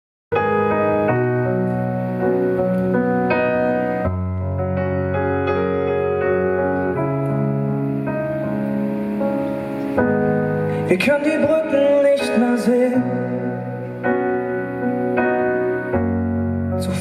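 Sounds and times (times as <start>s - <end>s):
piano playing slow chords: 0.3s - 17.0s.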